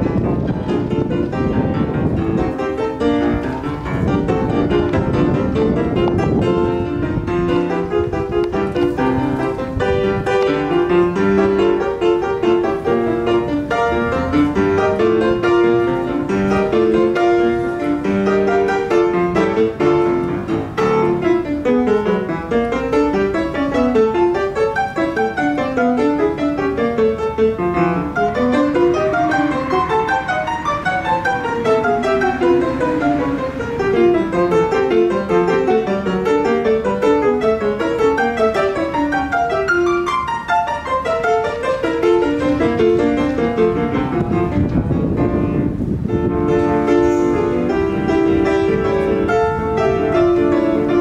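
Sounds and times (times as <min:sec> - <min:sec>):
grand piano playing: 0:00.0 - 0:51.0.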